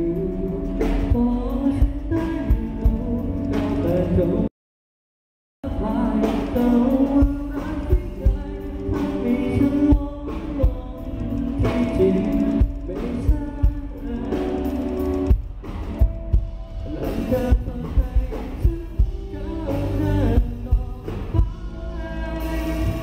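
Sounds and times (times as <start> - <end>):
bass guitar: 0.0 - 4.5, 5.6 - 23.0
electric guitar: 0.0 - 4.5, 5.6 - 23.0
man singing: 0.0 - 4.5, 5.6 - 15.3, 16.8 - 23.0.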